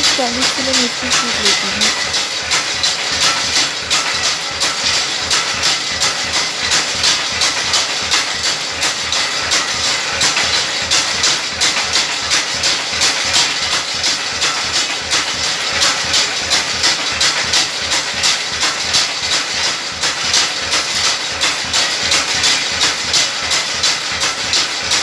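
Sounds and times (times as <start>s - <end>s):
grinding machine pulsing: 0.0s - 25.0s.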